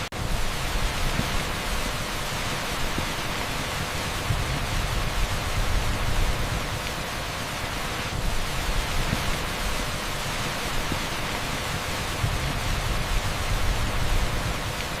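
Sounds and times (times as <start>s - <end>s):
torrential rain on asphalt: 0.1s - 15.0s.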